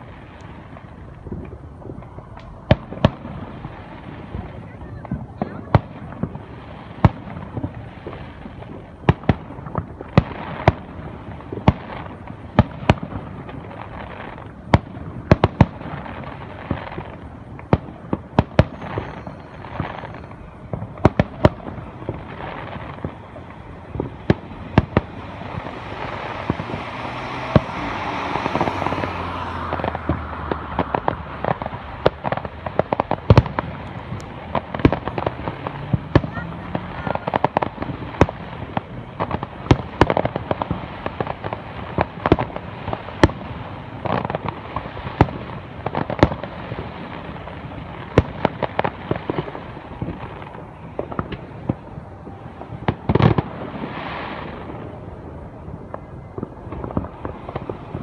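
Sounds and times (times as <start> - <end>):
fireworks bangs: 0.0 - 58.0
fireworks crackling and rumble: 0.0 - 58.0.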